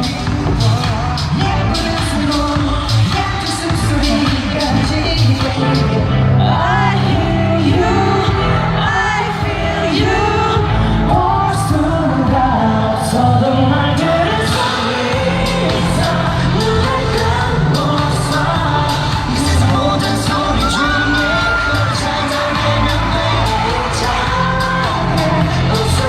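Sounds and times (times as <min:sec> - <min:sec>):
steady bass beat: 0:00.0 - 0:12.6, 0:15.2 - 0:26.0
male group vocals: 0:00.0 - 0:26.0.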